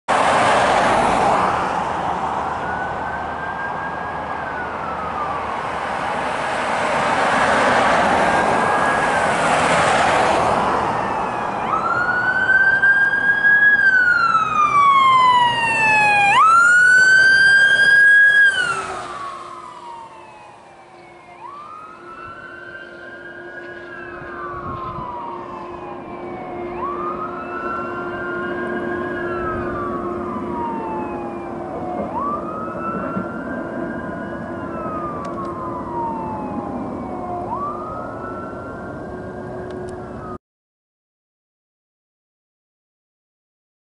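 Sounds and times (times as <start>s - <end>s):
fire engine siren wailing: 0.1s - 40.4s
heavy vehicle noise: 0.1s - 40.4s.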